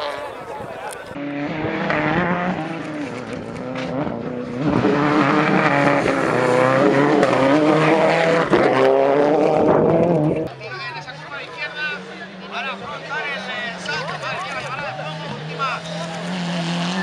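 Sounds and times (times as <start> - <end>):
car engine accelerating hard: 1.1 - 17.0.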